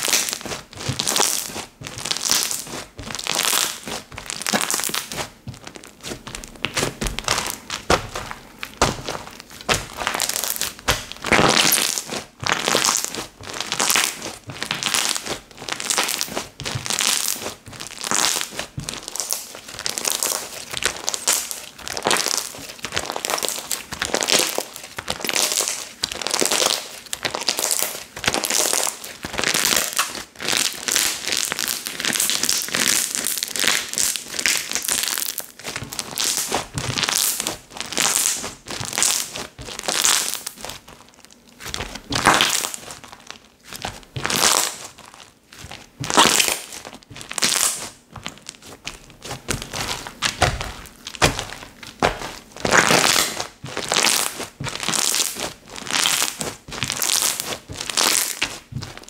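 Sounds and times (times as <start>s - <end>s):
slime squishing by hand: 0.0s - 59.0s.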